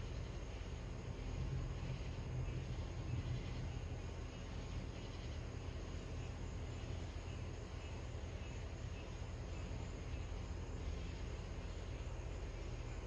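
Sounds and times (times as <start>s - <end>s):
crickets chirping: 0.0s - 13.0s
steady low rumble: 0.0s - 13.0s.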